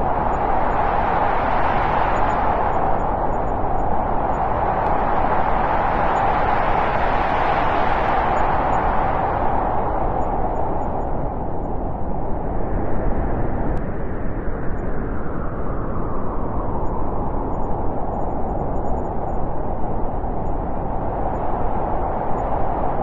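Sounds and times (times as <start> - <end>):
wind rushing: 0.0 - 23.0.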